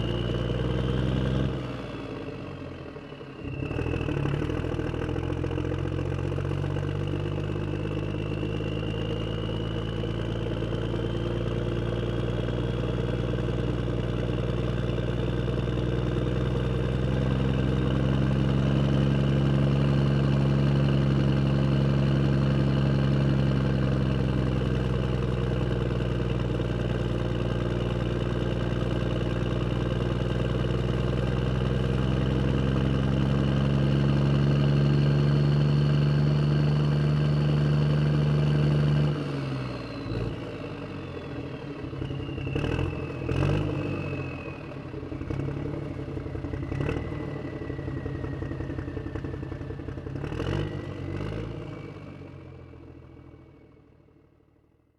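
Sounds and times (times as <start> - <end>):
vehicle engine running: 0.0 - 54.8.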